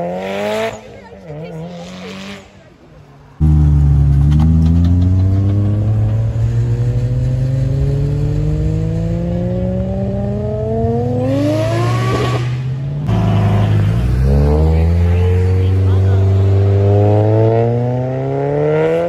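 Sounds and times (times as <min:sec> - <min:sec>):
car engine accelerating hard: 0:03.4 - 0:19.0.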